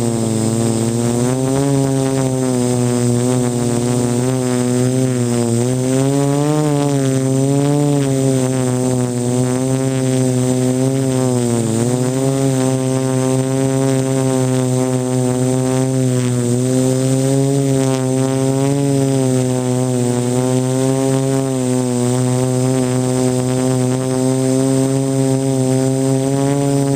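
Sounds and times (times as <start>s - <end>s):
quadcopter propellers buzzing: 0.0s - 26.9s.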